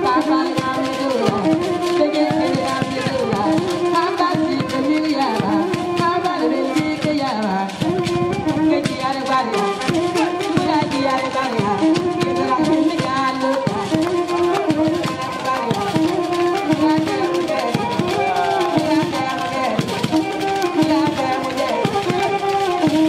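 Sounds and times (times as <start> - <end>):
drums beating: 0.0 - 23.0.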